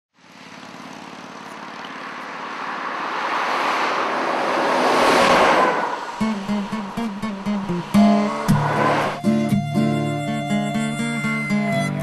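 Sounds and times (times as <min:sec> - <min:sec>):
truck passing on a highway: 0:00.2 - 0:12.0.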